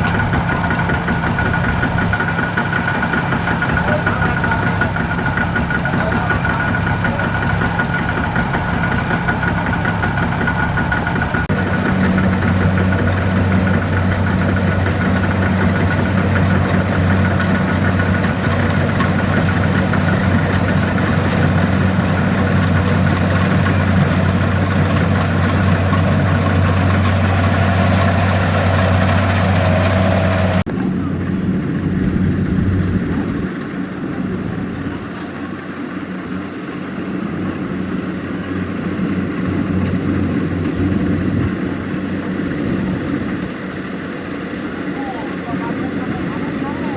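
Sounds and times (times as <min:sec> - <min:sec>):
diesel engine humming: 0:00.0 - 0:46.9.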